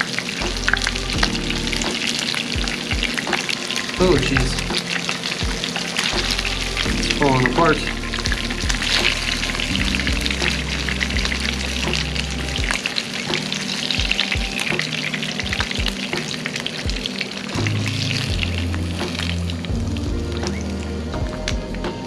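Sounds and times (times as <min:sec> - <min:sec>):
fish fillets sizzling in oil: 0:00.0 - 0:19.8.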